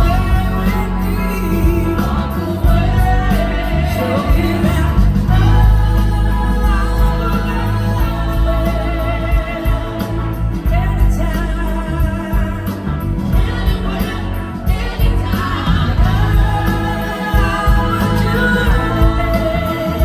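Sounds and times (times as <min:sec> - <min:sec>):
live band playing rock song: 0:00.0 - 0:20.0
person singing: 0:00.0 - 0:20.0.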